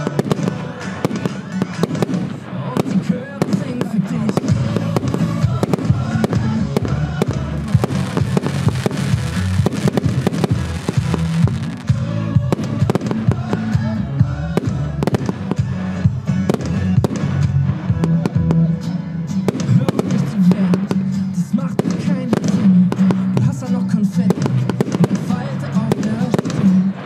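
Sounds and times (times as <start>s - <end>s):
firework bangs and crackling: 0.0s - 27.0s
music playing: 0.0s - 27.0s.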